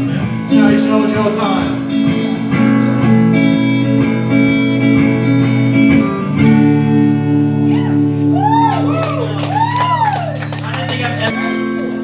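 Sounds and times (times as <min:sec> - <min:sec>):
electric guitar notes: 0:00.0 - 0:12.0.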